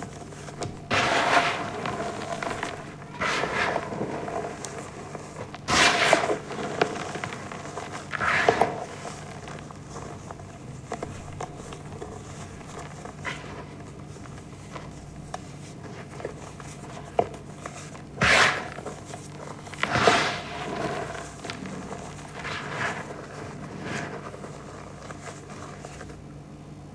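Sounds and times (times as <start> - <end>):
chalk being crushed: 0.1 - 26.1.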